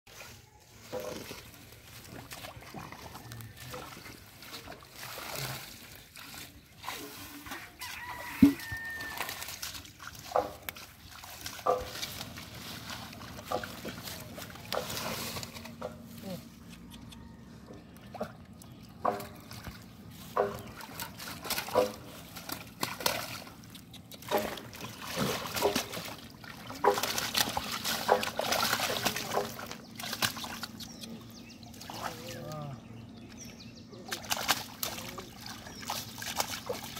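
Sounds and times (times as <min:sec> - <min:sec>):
wet grass rustling: 0:00.1 - 0:17.0, 0:18.1 - 0:32.5, 0:34.1 - 0:36.9
splashing in muddy water: 0:00.1 - 0:36.9.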